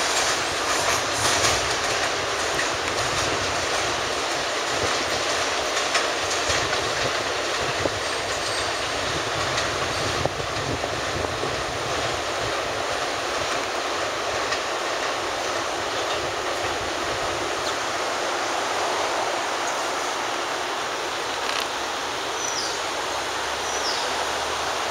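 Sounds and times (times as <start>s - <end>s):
train rushing noise: 0.0s - 24.9s
train wheels clicking over rail joints: 0.0s - 24.9s.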